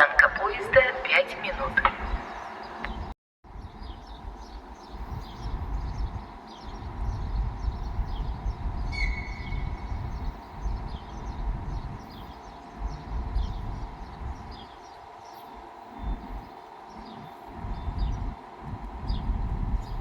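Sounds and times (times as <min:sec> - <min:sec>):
locomotive engine drone: 0:00.0 - 0:20.0
small birds chirping: 0:00.0 - 0:20.0
train rumbling slowly: 0:00.0 - 0:20.0.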